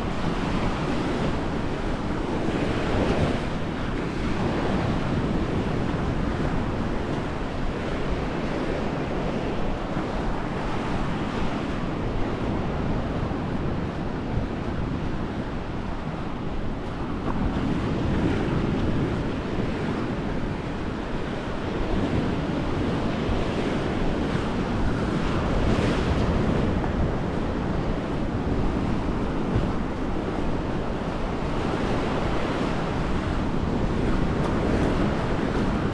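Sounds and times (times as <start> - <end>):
surf washing onto shore: 0.0 - 35.9
wind on microphone: 0.0 - 35.9.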